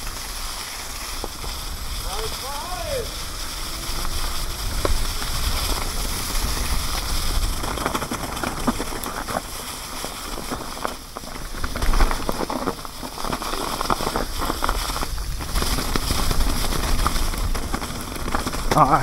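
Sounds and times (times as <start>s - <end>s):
bike rattling over rough ground: 0.0s - 19.0s
bike tyres crackling over dry leaves: 0.0s - 19.0s
wind rumble on microphone: 0.0s - 19.0s.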